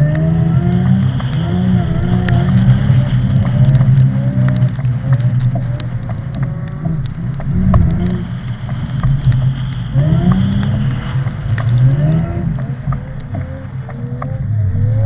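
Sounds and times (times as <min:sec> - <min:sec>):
car engine revving hard: 0:00.0 - 0:05.0, 0:07.5 - 0:15.0.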